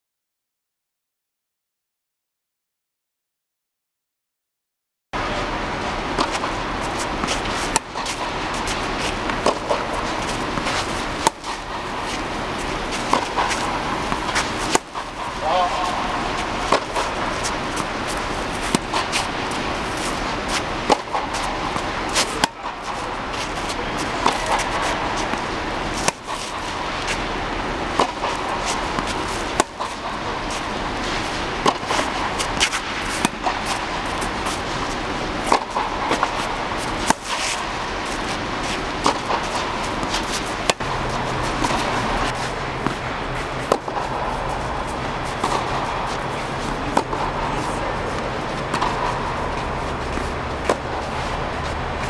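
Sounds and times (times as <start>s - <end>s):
steady background noise: 5.2s - 52.0s
tennis ball struck by rackets: 6.1s - 51.3s.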